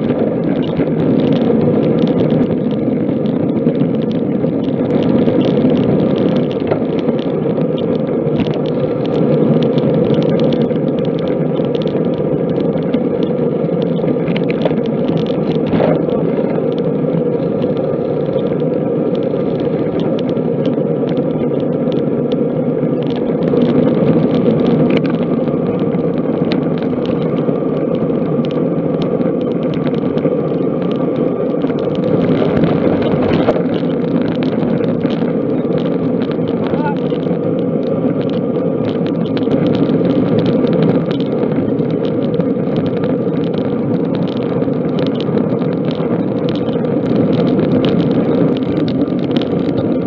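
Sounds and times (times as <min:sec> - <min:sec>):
road noise: 0:00.0 - 0:50.0
wind rush on microphone: 0:00.0 - 0:50.0.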